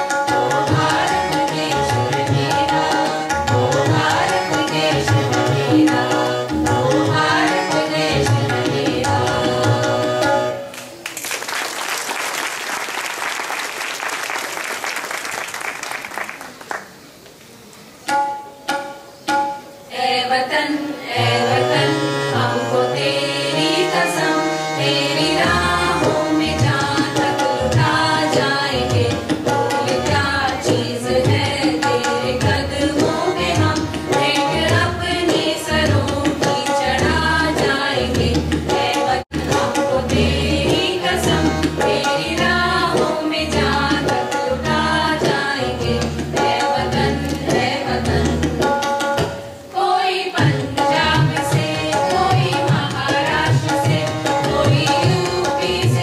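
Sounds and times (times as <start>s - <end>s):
song with tabla and singing: 0.0s - 14.8s, 17.9s - 56.0s.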